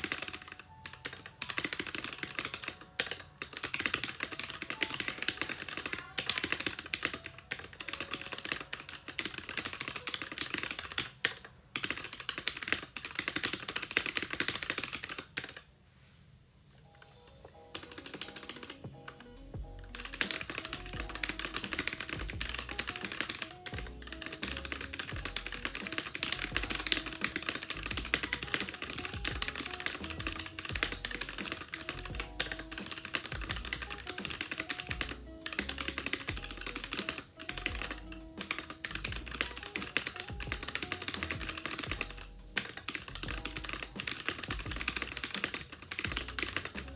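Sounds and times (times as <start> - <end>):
background music with steady beat: 0.0 - 14.7, 16.8 - 46.9
fast typing on mechanical keyboard: 0.0 - 15.7, 17.7 - 46.9.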